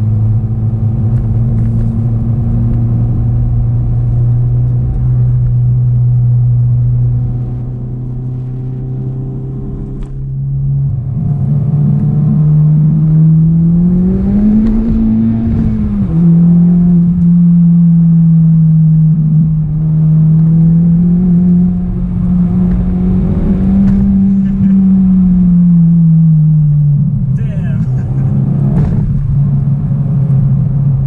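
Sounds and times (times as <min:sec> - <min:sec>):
turbocharged car engine from cabin: 0:00.0 - 0:31.0.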